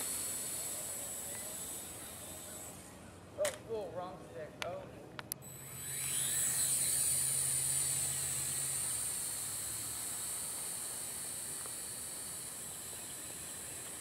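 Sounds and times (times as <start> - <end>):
quadcopter propellers whining: 0.0 - 3.4, 5.4 - 14.0.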